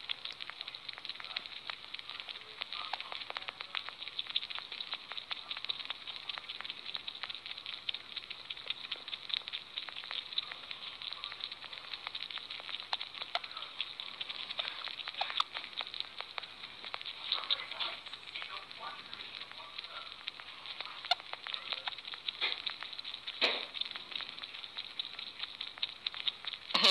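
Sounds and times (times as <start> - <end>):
sugar gliders clicking: 0.0 - 26.9.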